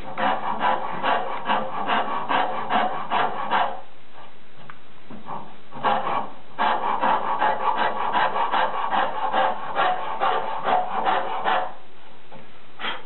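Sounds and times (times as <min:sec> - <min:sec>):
rasp strokes on wood: 0:00.0 - 0:03.9, 0:05.2 - 0:11.8.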